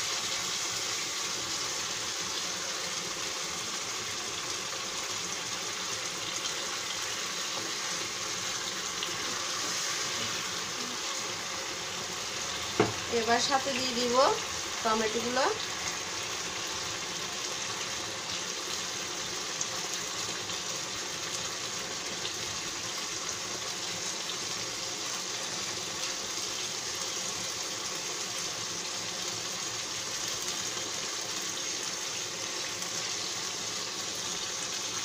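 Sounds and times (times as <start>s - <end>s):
fish curry sizzling in a pan: 0.0s - 35.0s.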